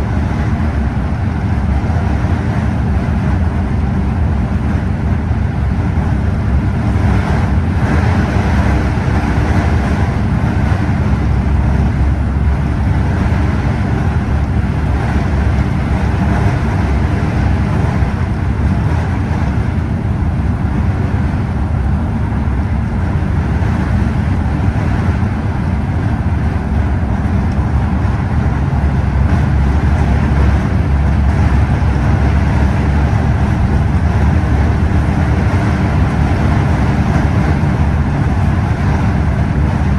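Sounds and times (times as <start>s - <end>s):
coach engine drone: 0.0s - 39.9s
road rumble: 0.0s - 39.9s.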